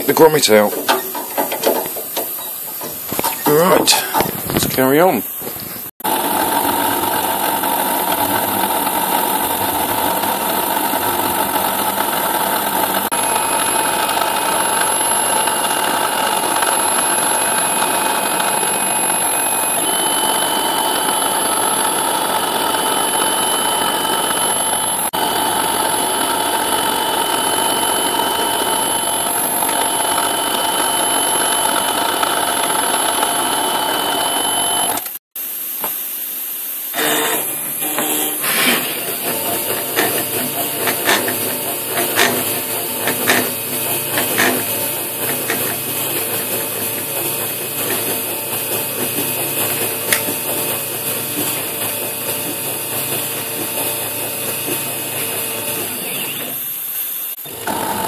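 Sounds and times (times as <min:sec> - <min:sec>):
high whine: 0:00.0 - 0:46.9
milling machine cutting metal: 0:00.0 - 0:58.0.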